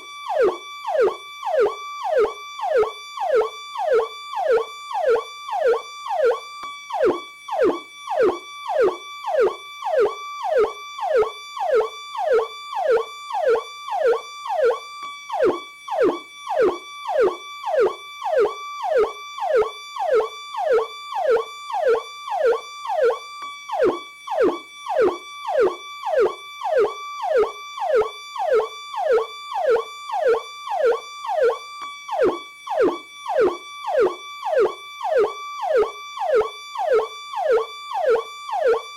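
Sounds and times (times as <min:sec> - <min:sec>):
electronic police siren: 0:00.0 - 0:38.9.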